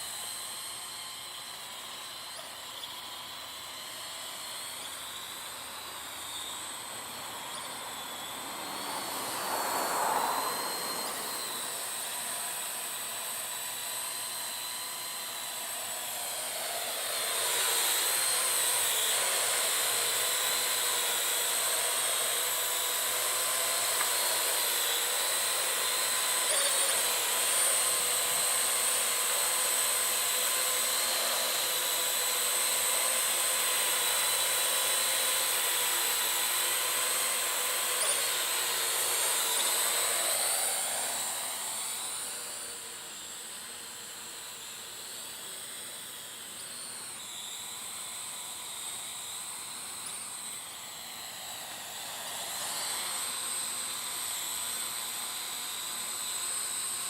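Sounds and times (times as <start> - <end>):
drone propellers whining: 0.0 - 56.9.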